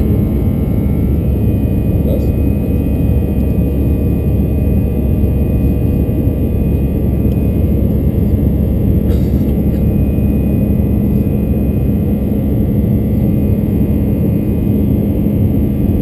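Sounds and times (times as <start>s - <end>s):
jet engine cabin roar: 0.0s - 16.0s
steady low hum: 0.0s - 16.0s.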